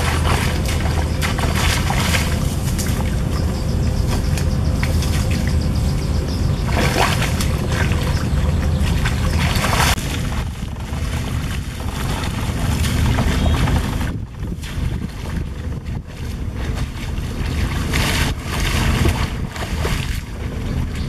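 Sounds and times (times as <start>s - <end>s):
water splashing and sloshing: 0.0s - 21.0s
wind buffeting microphone: 0.0s - 21.0s.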